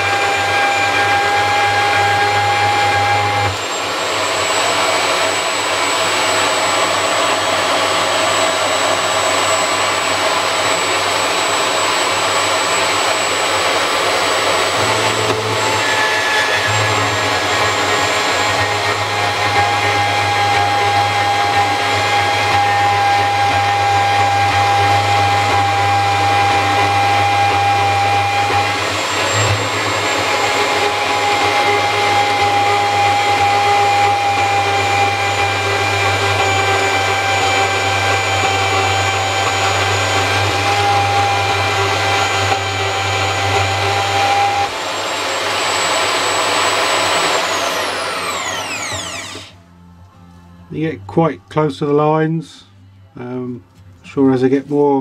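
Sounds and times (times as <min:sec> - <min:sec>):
band saw cutting: 0:00.0 - 0:49.6.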